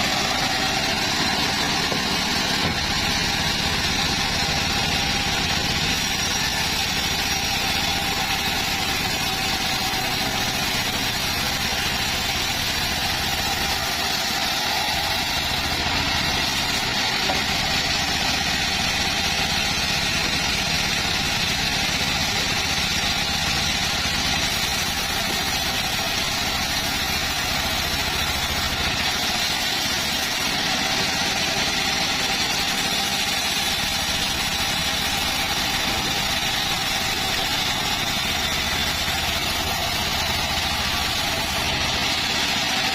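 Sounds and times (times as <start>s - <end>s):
circular saw running: 0.0s - 42.9s.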